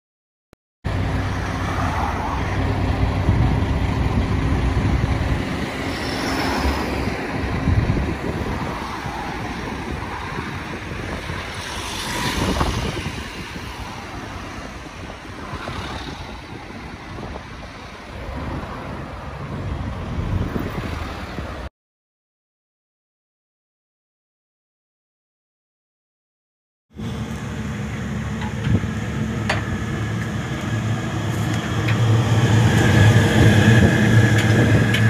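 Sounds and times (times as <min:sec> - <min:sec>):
vehicle engines humming: 0:00.9 - 0:21.7, 0:27.0 - 0:35.0
vehicles passing: 0:00.9 - 0:21.7, 0:27.0 - 0:35.0.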